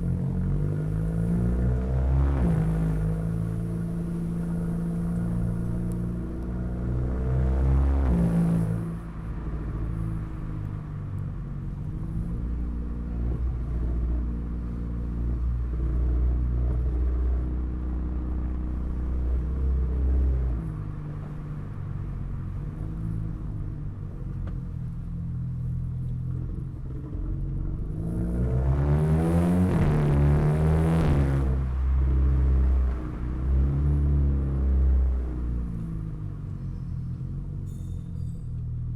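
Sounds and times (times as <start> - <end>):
car exhaust rumbling and revving: 0.0 - 38.9.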